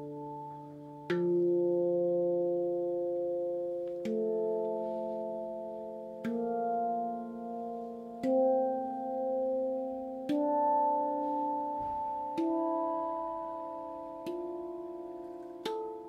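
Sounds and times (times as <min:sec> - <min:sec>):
steel tongue drum notes: 0:00.0 - 0:16.0.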